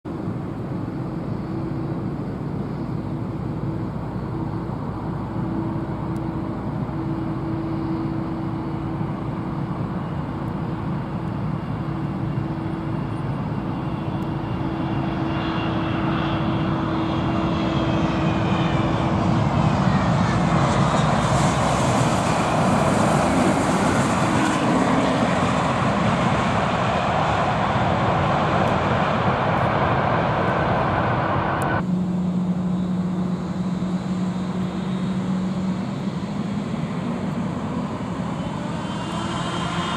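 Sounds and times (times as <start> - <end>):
airliner engines passing: 0.0 - 39.9
low aircraft engine hum: 0.0 - 39.9.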